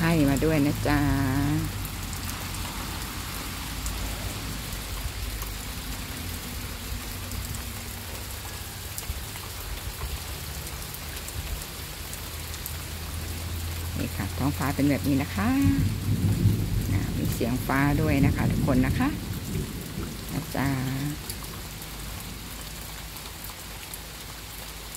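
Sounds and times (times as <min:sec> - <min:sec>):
rain falling on leaves: 0:00.0 - 0:24.9.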